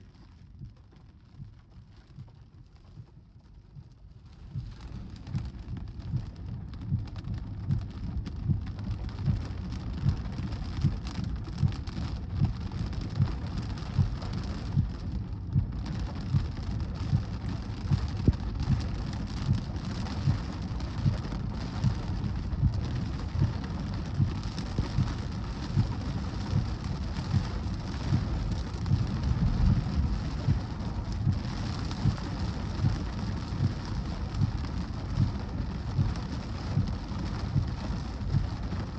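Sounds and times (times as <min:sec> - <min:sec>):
short low thumps: 0:00.6 - 0:38.9
heavy rain: 0:04.2 - 0:38.9.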